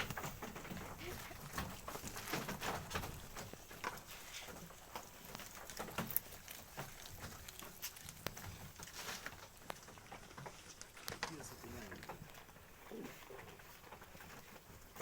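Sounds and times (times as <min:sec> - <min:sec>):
small knocks and clicks: 0:00.0 - 0:12.7
goats rustling and crunching feed: 0:00.0 - 0:15.0.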